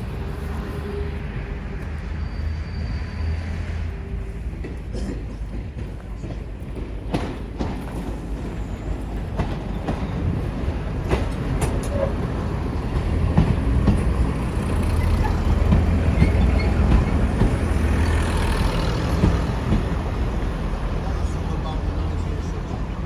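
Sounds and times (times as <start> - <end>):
train rumbling on track: 0.0 - 23.0
wheels clicking on rails: 1.2 - 22.8.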